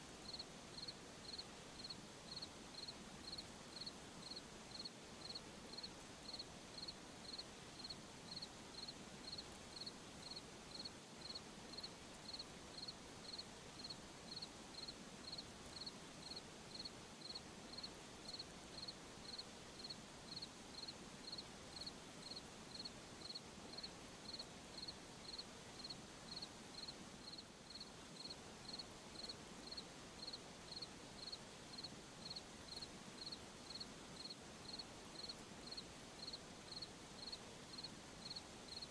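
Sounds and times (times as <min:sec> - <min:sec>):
soft background hiss: 0:00.0 - 0:38.9
cricket chirping: 0:00.2 - 0:38.9.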